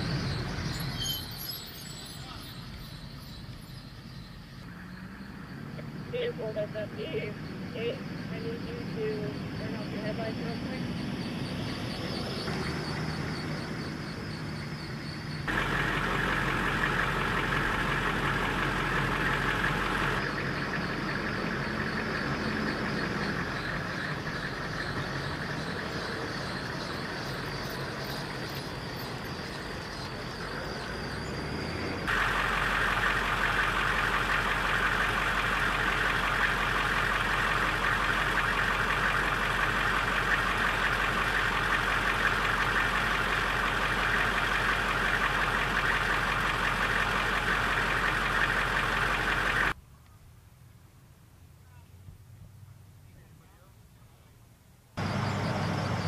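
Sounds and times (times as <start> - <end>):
vehicle driving slowly by: 0.0 - 56.0
diesel engine idling: 1.6 - 49.8, 55.0 - 56.0.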